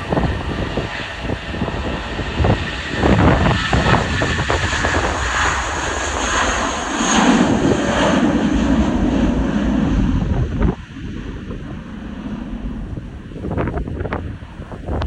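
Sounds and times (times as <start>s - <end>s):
jet engines at takeoff power: 0.0s - 15.0s
wind buffeting on microphone: 0.0s - 15.0s.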